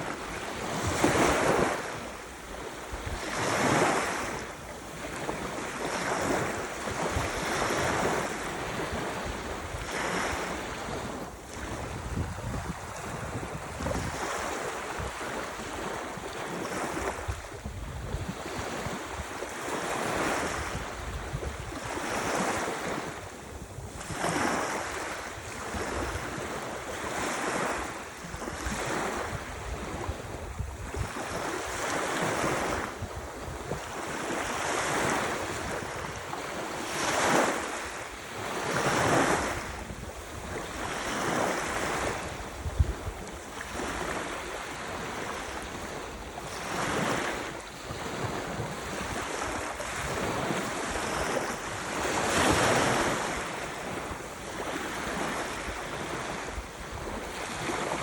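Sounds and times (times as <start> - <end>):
ocean waves surf hiss: 0.0 - 58.0.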